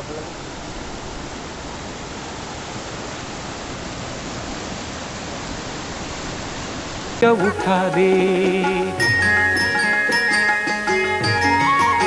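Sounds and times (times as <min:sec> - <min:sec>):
water rushing over boulders: 0:00.0 - 0:12.0.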